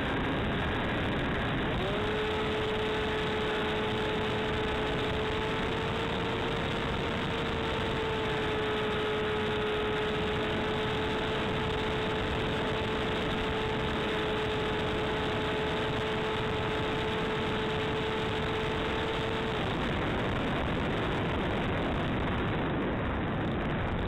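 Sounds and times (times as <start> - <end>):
electric motor and propeller whine: 0.0 - 24.0
wind noise on microphone: 0.0 - 24.0.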